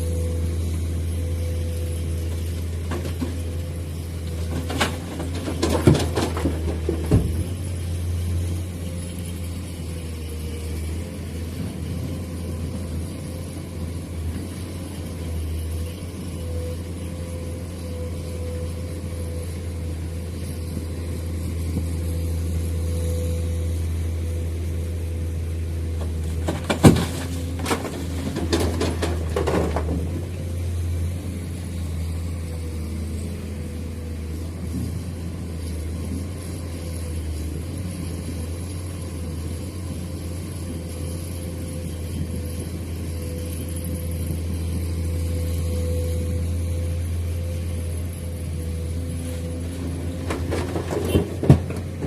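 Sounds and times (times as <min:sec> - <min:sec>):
heavy vehicle engine rumbling: 0:00.0 - 0:52.0.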